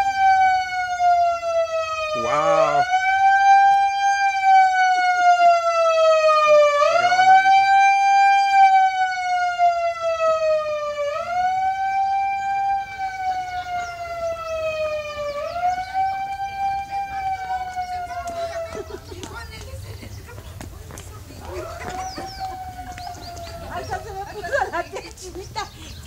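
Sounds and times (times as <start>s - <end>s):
electronic alarm siren wailing: 0.0s - 18.7s, 21.6s - 24.1s.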